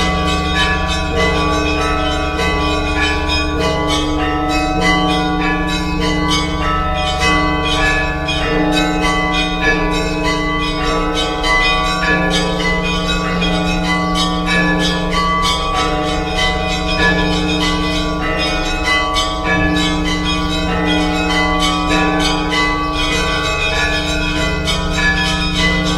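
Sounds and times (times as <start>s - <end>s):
low bells humming: 0.0s - 25.9s.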